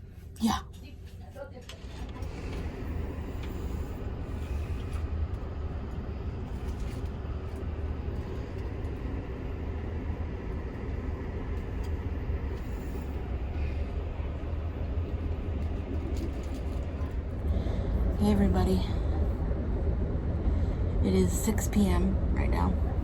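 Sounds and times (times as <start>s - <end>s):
train rumbling from inside car: 0.0s - 23.0s.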